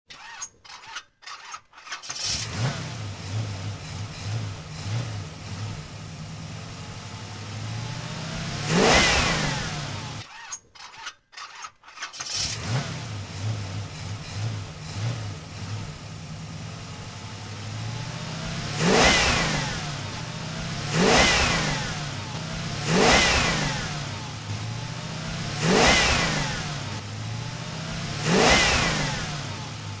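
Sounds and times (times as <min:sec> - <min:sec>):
car engine idling and revving: 0:02.1 - 0:10.3, 0:12.2 - 0:30.0
car engine starting: 0:02.1 - 0:10.3, 0:12.2 - 0:30.0.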